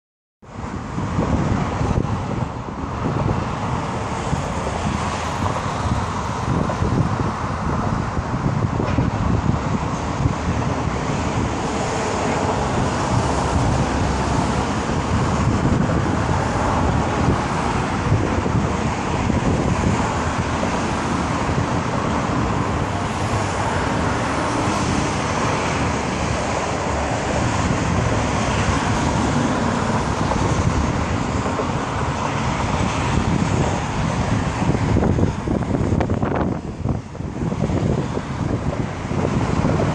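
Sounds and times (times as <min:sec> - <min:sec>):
road traffic hum: 0:00.4 - 0:39.9
wind rumbling on microphone: 0:00.4 - 0:39.9.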